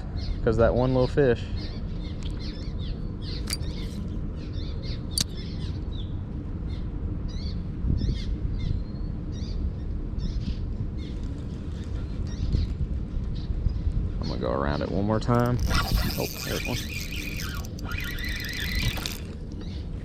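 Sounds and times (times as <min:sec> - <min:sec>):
birds chirping and singing: 0:00.0 - 0:20.0
steady low rumble: 0:00.0 - 0:20.0.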